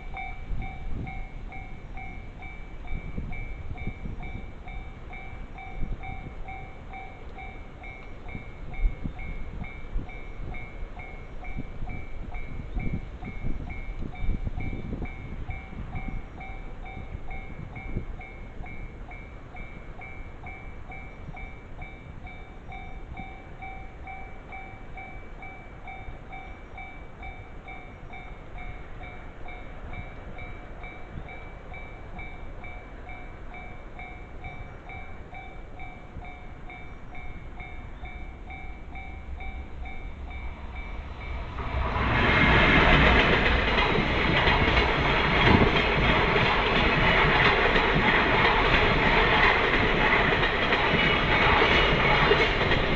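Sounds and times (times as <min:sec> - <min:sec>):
level crossing warning bell: 0:00.0 - 0:41.6, 0:42.6 - 0:52.9
train passing: 0:00.0 - 0:52.9.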